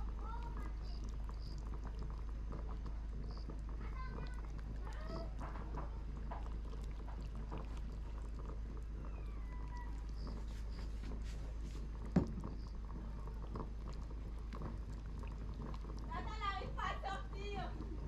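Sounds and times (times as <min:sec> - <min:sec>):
liquid sloshing: 0:00.0 - 0:18.0.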